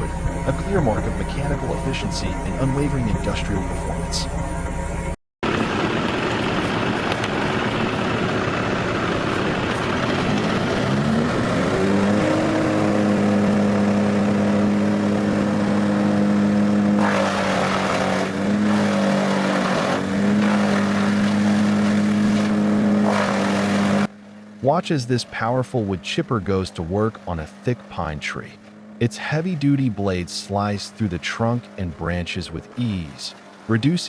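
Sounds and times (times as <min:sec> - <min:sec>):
wood chipper engine running: 0:00.0 - 0:33.8.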